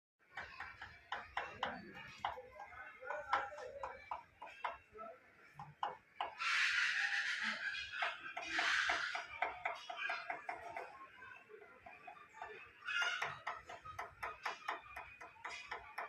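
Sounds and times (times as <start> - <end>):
woodpecker tapping on wood: 0.2 - 6.9, 7.7 - 16.0.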